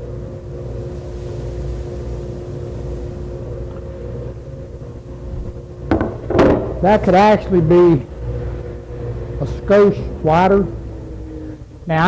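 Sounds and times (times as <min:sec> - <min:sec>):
workshop machine hum: 0:00.0 - 0:12.0.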